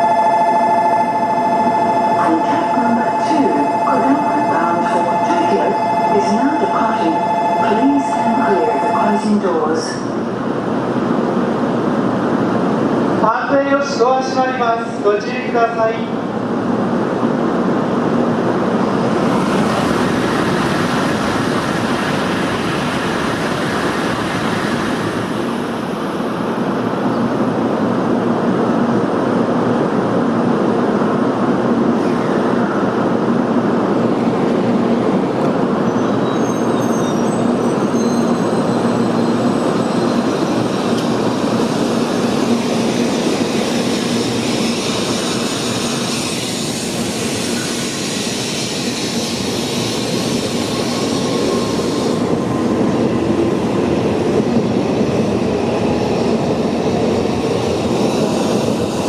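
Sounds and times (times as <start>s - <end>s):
train rushing past with low hum: 0.0s - 59.0s.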